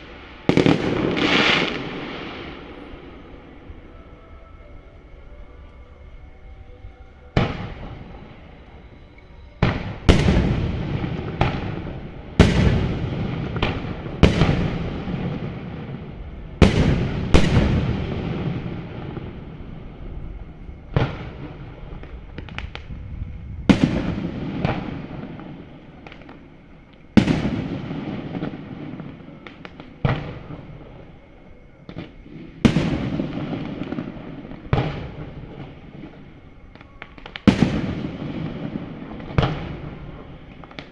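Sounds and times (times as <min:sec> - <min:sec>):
fireworks booming: 0:00.0 - 0:03.9, 0:07.3 - 0:40.9.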